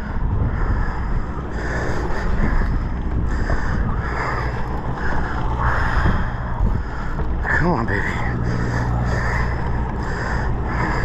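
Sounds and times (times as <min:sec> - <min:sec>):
boat engine humming: 0:00.0 - 0:11.0
sea wash: 0:00.0 - 0:11.0
wind on microphone: 0:00.0 - 0:11.0.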